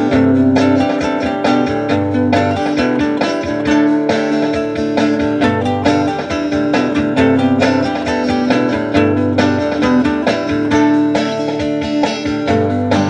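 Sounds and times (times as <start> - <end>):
guitar picking and strumming: 0.0 - 13.0.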